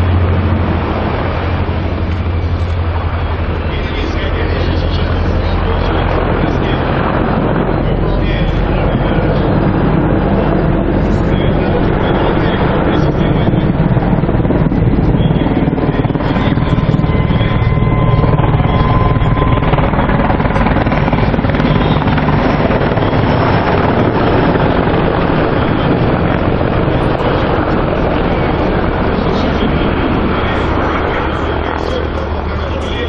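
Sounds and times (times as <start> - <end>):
helicopter engines rushing: 0.0 - 33.0
helicopter rotor thumping: 0.0 - 33.0.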